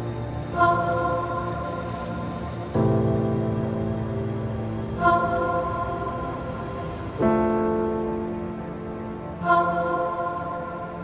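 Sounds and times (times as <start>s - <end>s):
ambient music chords: 0.0s - 11.0s.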